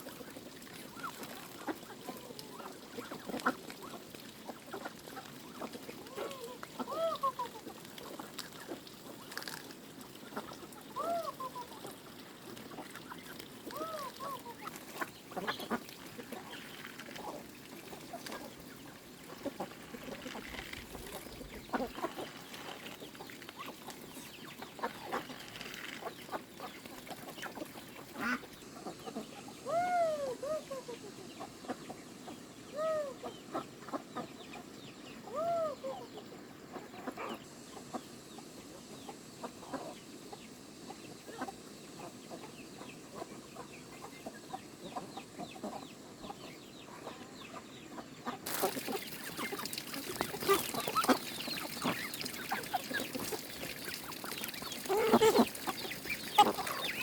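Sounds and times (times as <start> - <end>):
chickens clucking: 0.0 - 57.0
drawn-out chicken calls: 0.0 - 57.0
steady hiss: 0.0 - 57.0.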